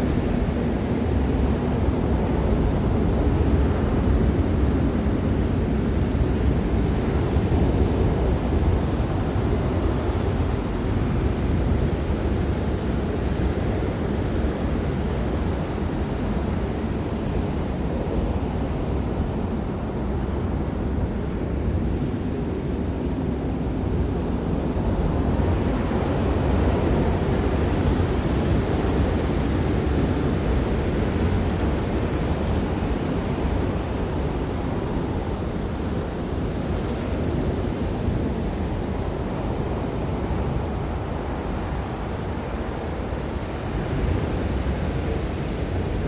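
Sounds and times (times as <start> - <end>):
wind: 0.0 - 46.0.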